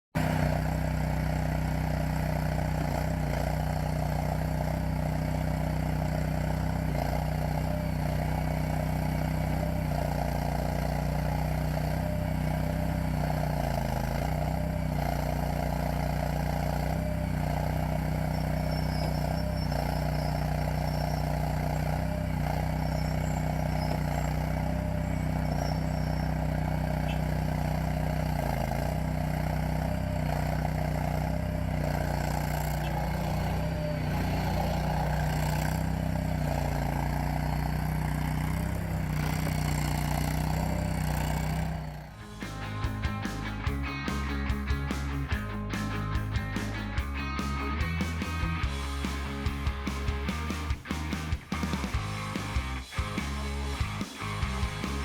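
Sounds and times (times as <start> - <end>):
gas engine running steadily: 0.2 - 55.0.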